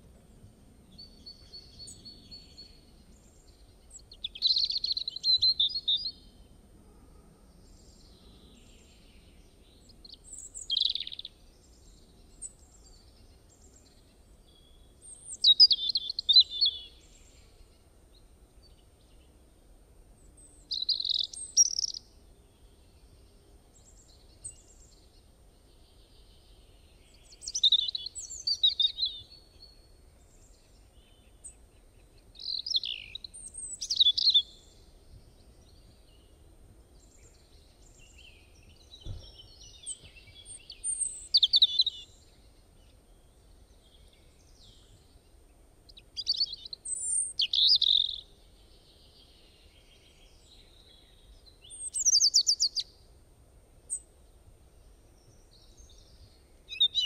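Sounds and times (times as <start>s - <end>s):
bird chirping: 0.9s - 6.5s, 7.5s - 17.8s, 20.2s - 53.1s, 53.9s - 57.0s.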